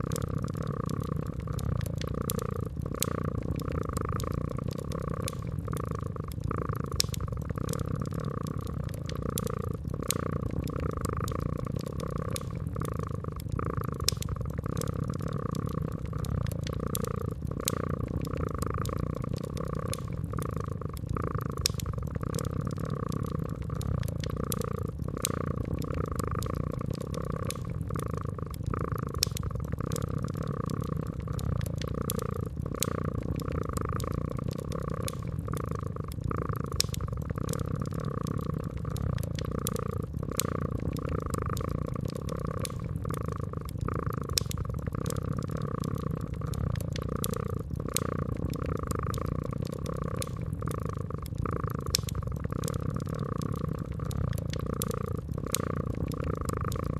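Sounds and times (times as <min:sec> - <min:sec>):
cat purring: 0:00.0 - 0:56.9
wood fire crackling: 0:00.0 - 0:56.9.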